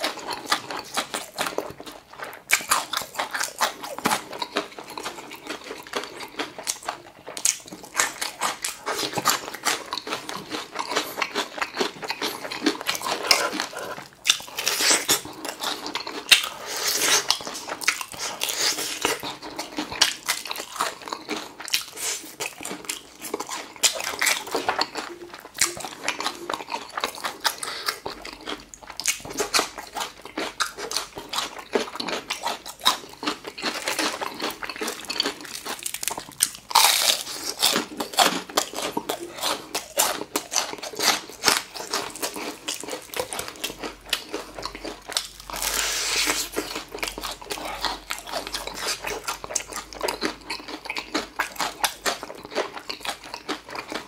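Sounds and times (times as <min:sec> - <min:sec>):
chewing crispy fried chicken: 0:00.0 - 0:54.0.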